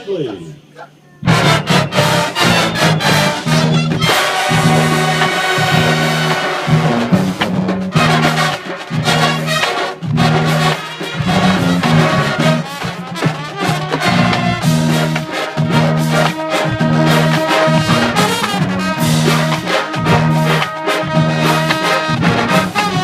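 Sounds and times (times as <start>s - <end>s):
low brass bass figure: 1.2s - 23.0s
marching band playing funk: 1.2s - 23.0s
sharp drum hits: 1.3s - 23.0s.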